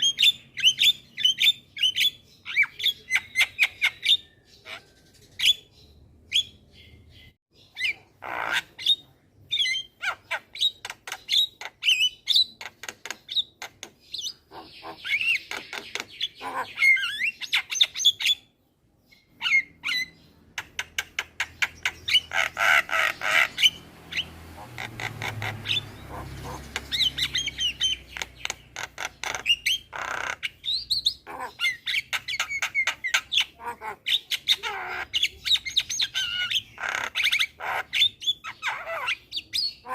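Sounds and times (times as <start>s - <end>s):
myna bird singing: 0.0s - 39.9s.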